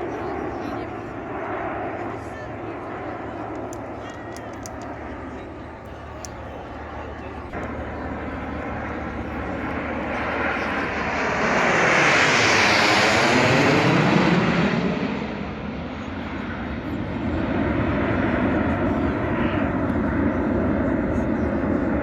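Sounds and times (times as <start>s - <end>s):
aircraft flying past: 0.0s - 22.0s.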